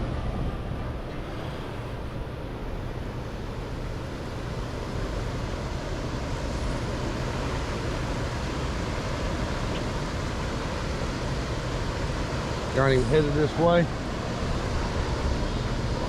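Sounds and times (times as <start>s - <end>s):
water rushing around boat: 0.0s - 16.0s.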